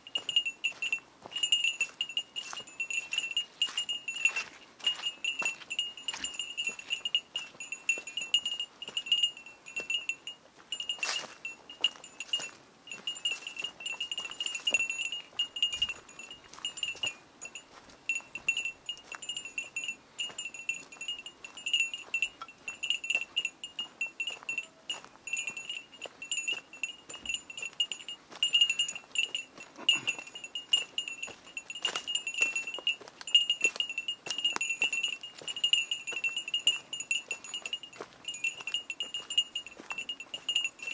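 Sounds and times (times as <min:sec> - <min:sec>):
footsteps crunching on dry twigs: 0:00.0 - 0:40.9
small metal bell jingling: 0:00.0 - 0:40.9.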